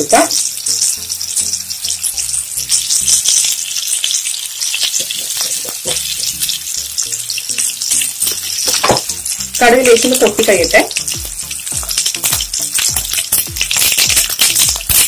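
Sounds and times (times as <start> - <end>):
seeds sizzling in hot oil: 0.0 - 15.0
spatula stirring oil: 0.0 - 15.0.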